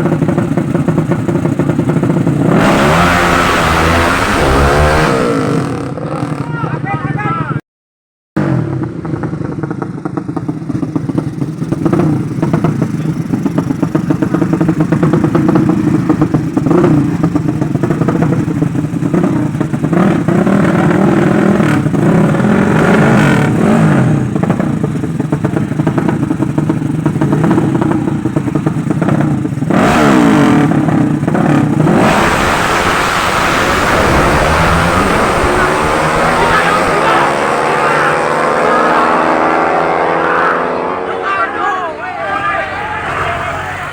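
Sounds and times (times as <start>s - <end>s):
motorcycle engine revving: 0.0s - 7.5s, 8.4s - 43.9s.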